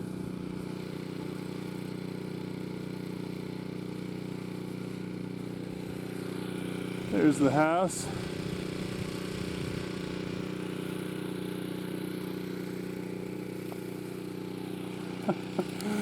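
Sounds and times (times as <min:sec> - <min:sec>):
snowblower engine idling: 0:00.0 - 0:16.0.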